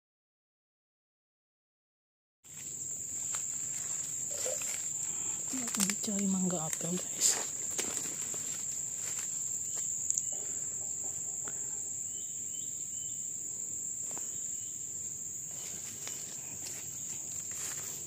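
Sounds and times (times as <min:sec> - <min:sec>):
insects droning: 0:02.5 - 0:18.0.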